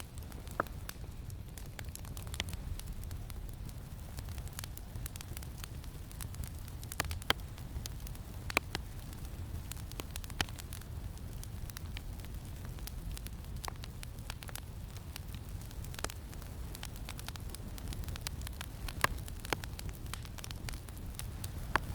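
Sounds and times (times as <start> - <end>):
campfire crackling: 0.0 - 21.9
low rumble of wind: 0.0 - 21.9.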